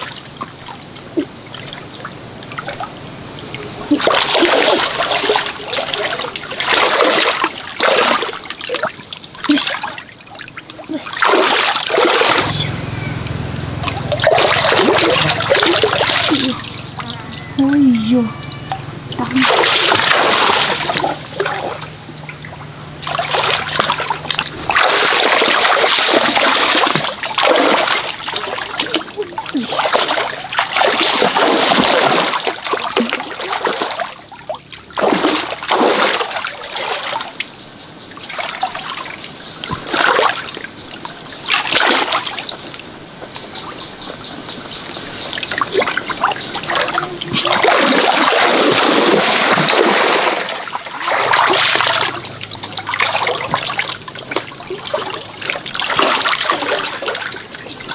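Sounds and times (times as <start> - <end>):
stream water splashing: 0.0 - 57.9
water trickling: 0.0 - 57.9.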